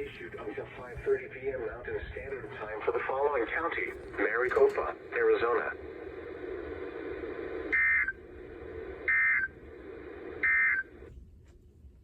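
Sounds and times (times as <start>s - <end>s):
radio hiss: 0.0s - 11.1s.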